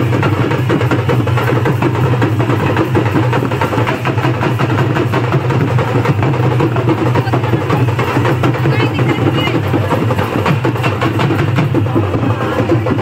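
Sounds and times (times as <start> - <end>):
barrel drums beaten in rhythm: 0.0 - 13.0.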